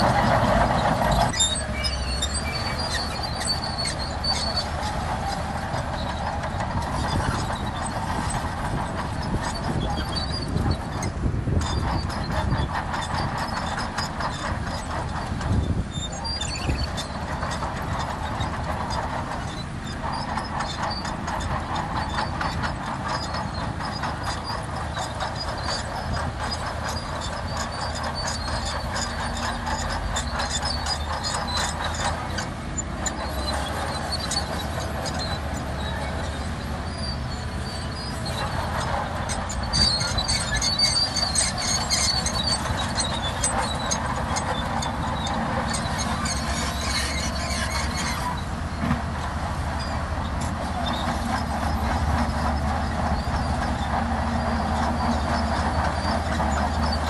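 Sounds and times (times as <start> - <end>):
diesel engine running: 0.0 - 57.0
steel tracks clanking and squealing: 0.0 - 57.0.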